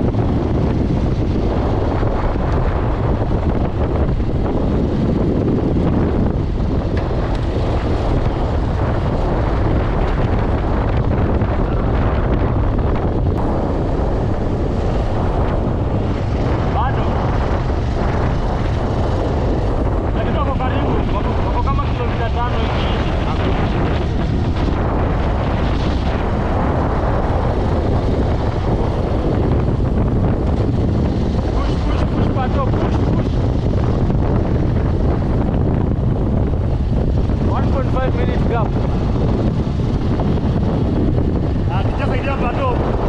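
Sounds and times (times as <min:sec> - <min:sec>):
vehicle running and road noise: 0:00.0 - 0:43.0
wind buffeting microphone: 0:00.0 - 0:43.0.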